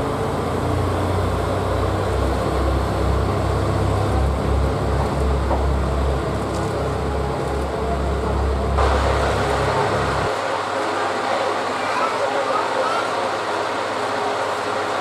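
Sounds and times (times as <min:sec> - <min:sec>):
diesel railcar engine rumble: 0:00.0 - 0:15.0.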